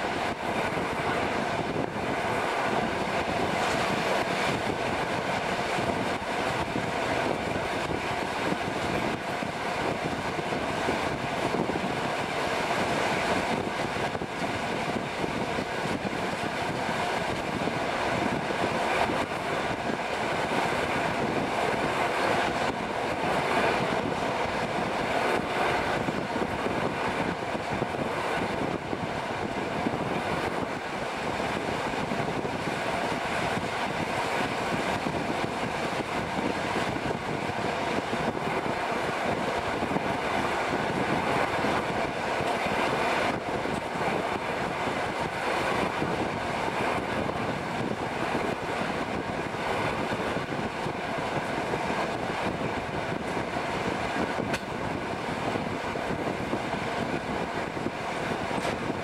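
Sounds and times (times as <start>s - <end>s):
train wheels on rails: 0.0s - 59.0s
wind rushing: 0.0s - 59.0s.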